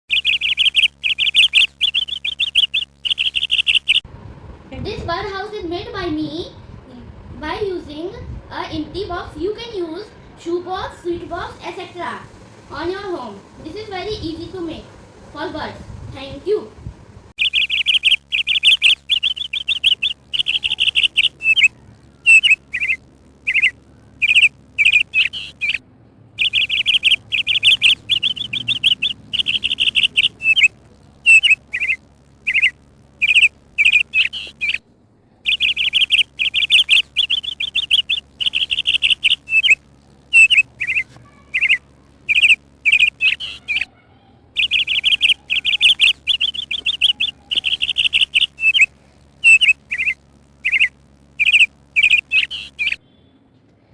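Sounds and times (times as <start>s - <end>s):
songbird chirping in trills: 0.1s - 4.0s, 9.2s - 25.8s, 26.4s - 34.8s, 35.4s - 44.0s, 44.6s - 53.4s.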